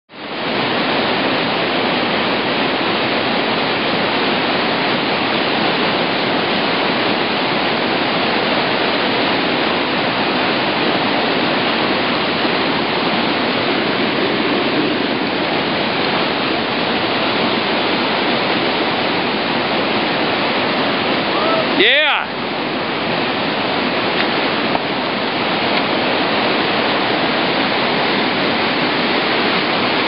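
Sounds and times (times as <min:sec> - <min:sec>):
whitewater rapid rushing: 0:00.1 - 0:30.0.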